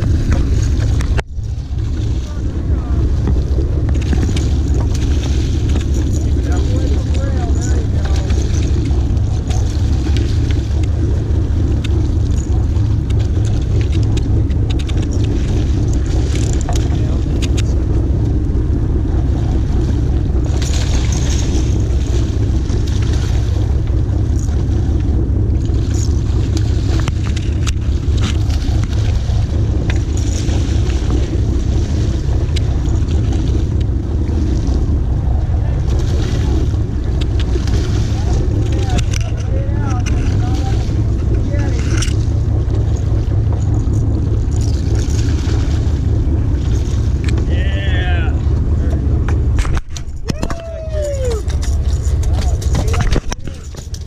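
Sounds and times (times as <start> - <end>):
boat engine rumbling: 0.0 - 54.0
wind buffeting microphone: 0.0 - 54.0.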